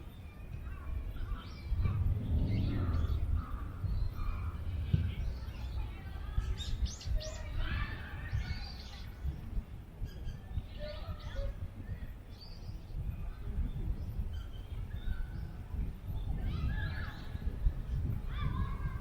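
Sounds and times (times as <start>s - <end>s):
small birds chirping: 0.0s - 19.0s
wind rumble on microphone: 0.0s - 19.0s.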